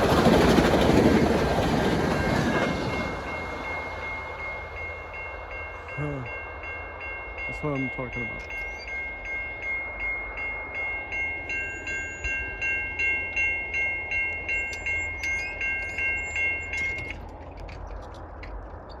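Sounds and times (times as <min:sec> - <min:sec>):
passing train rumble: 0:00.0 - 0:19.0
level-crossing bell ringing: 0:01.9 - 0:17.2.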